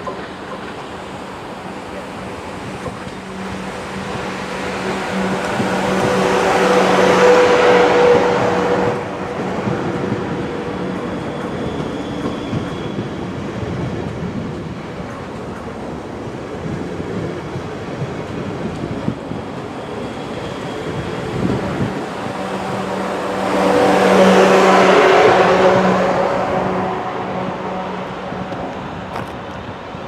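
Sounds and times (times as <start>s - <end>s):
train passing close by: 0.0s - 30.0s.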